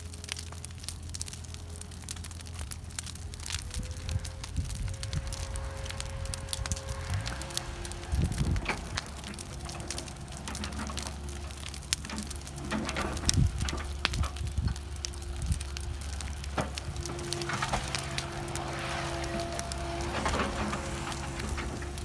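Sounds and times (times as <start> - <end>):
diesel excavator engine running: 0.0 - 22.0
fire crackling and popping: 0.0 - 22.0.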